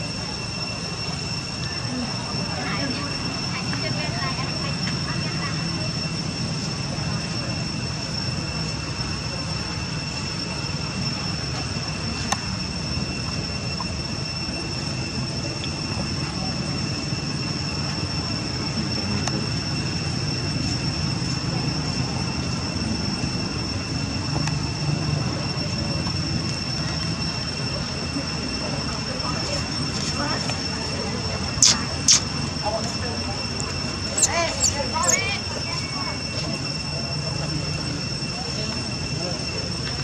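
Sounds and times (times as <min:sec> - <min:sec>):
high-pitched whine: 0:00.0 - 0:40.0.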